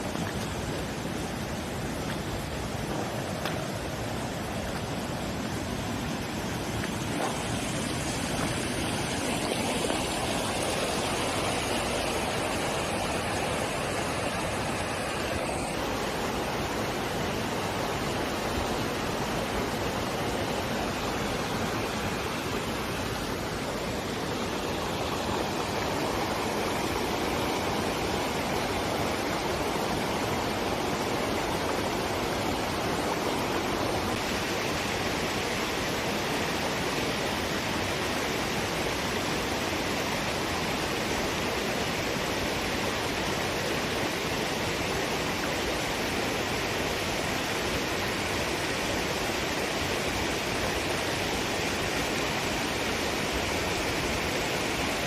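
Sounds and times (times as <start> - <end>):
rushing stream water: 0.0 - 55.0.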